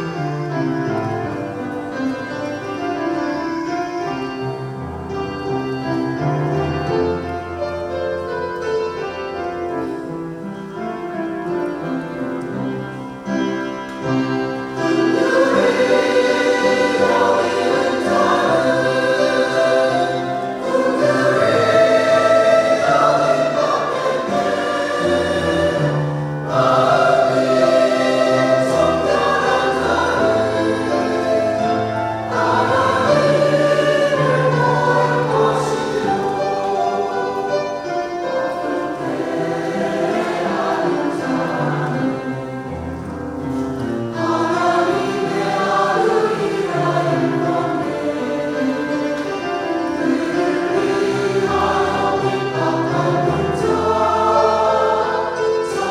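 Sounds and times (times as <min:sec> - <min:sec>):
church choir singing: 0:00.0 - 0:55.9.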